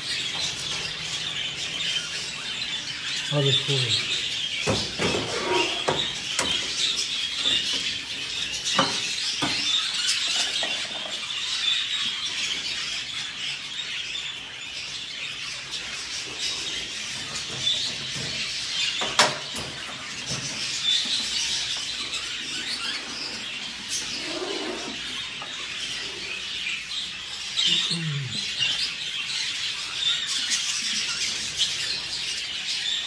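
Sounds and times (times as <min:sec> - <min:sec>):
budgerigars chattering and chirping: 0:00.0 - 0:33.0.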